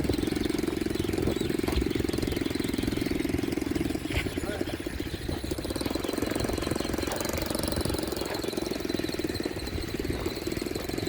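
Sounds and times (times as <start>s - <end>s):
small motorbike engine puttering: 0.0s - 11.0s.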